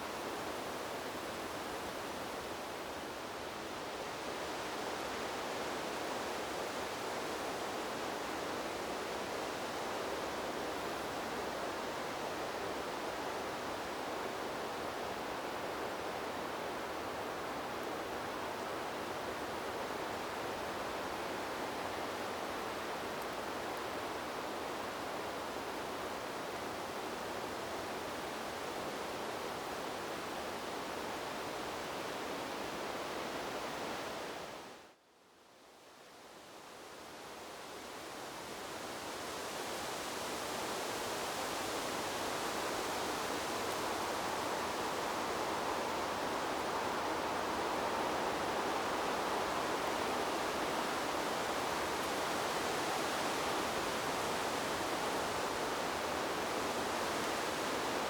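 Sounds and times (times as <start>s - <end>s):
wind blowing through trees: 0.0s - 58.0s.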